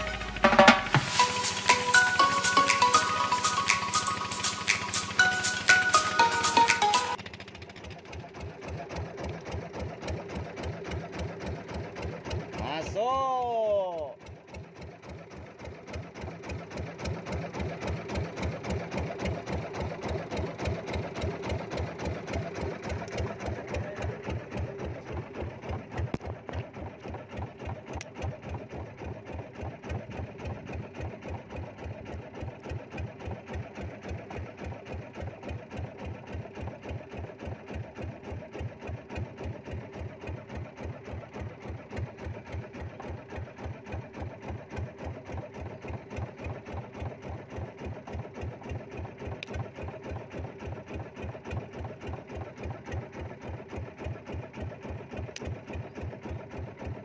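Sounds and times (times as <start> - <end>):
boat engine pulsing: 0.0 - 57.0.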